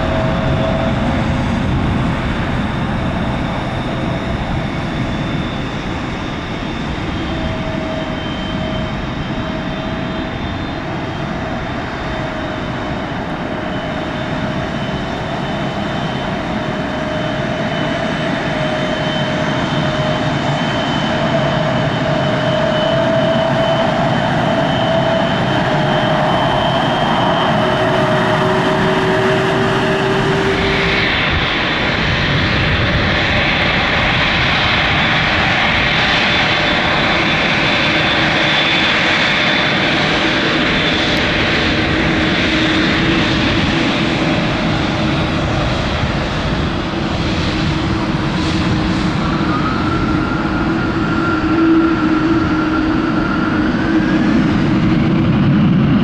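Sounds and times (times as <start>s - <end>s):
jet engines rumbling and whining: 0.0s - 56.0s
jet taxiing close by: 0.0s - 56.0s.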